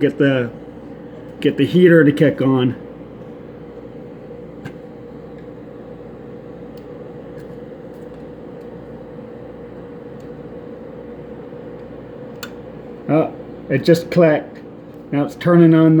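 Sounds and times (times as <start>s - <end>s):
air conditioner fan humming: 0.0s - 16.0s.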